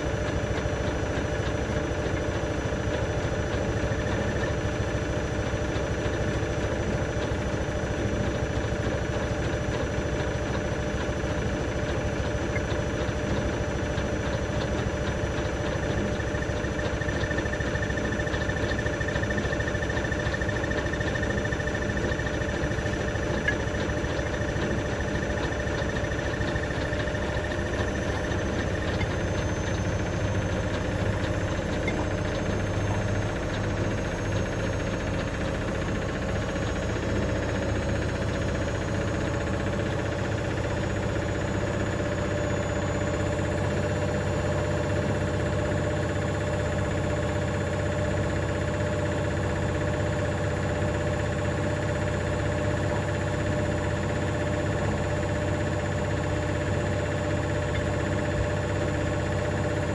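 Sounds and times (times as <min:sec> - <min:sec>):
rattle in washing machine: 0:00.0 - 0:53.0
washing machine spinning: 0:00.0 - 0:59.9.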